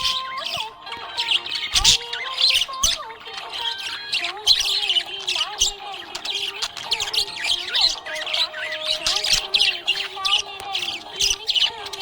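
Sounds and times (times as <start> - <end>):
budgerigars chirping: 0.0 - 12.0.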